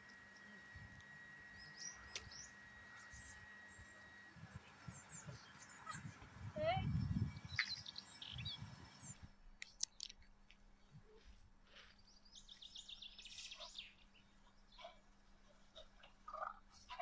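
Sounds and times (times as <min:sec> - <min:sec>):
faint street noise: 0:00.0 - 0:17.0
small birds chirping: 0:00.0 - 0:17.0.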